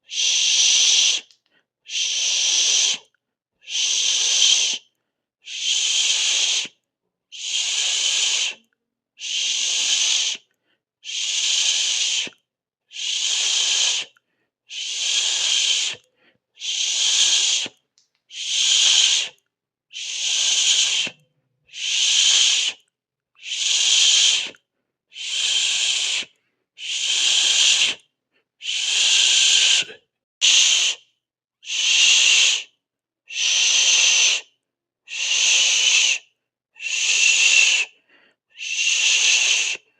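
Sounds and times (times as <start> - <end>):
person hissing through teeth: 0.0 - 6.8, 7.4 - 28.0, 28.6 - 39.9.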